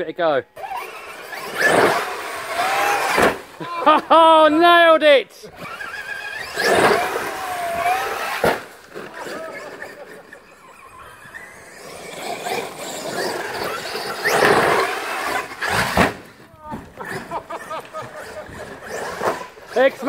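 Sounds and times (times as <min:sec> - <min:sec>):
rc truck motor whining: 0:00.5 - 0:04.0, 0:05.5 - 0:20.0.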